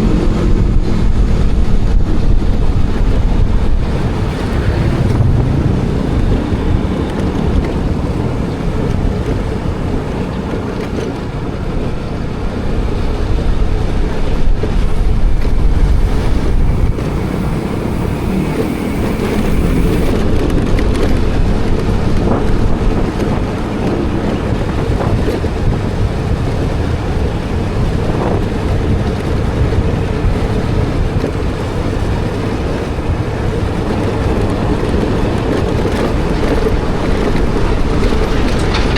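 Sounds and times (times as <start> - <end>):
steady low rumble: 0.0 - 38.9
wind buffeting microphone: 0.0 - 38.9.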